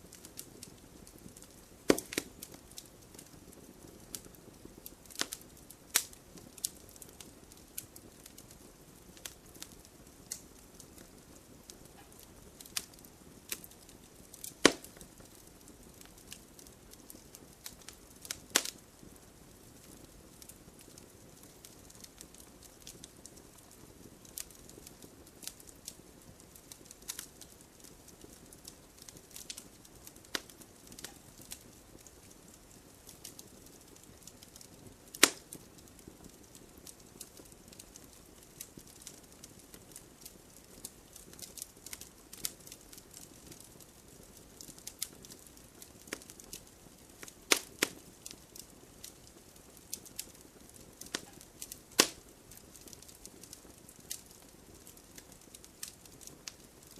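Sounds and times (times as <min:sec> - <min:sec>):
campfire hissing: 0:00.0 - 0:56.9
logs crackling and popping: 0:00.0 - 0:56.9.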